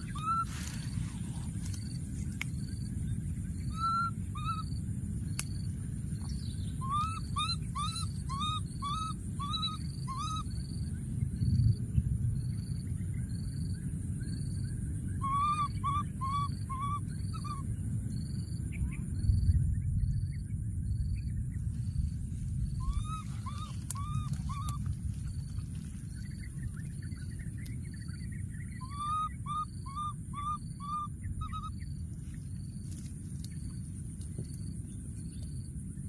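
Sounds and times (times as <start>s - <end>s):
constant high hiss: 0.0s - 36.0s.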